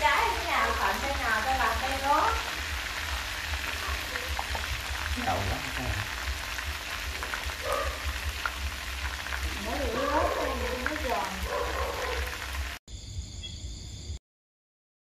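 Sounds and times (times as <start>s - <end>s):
meat sizzling in oil: 0.0s - 12.8s.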